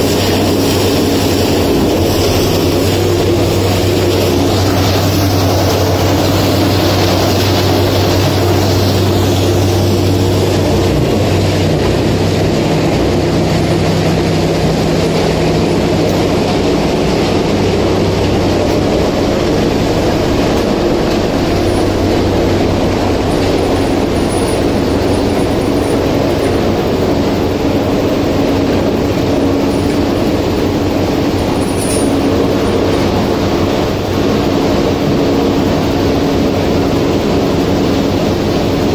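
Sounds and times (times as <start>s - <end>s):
industrial machinery running: 0.0s - 38.9s
low hum: 0.0s - 38.9s.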